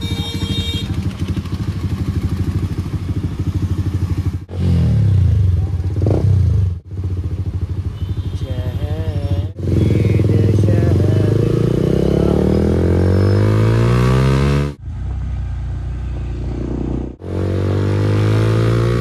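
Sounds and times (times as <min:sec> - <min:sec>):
motorcycle engine accelerating: 0:00.0 - 0:08.2, 0:09.0 - 0:19.0.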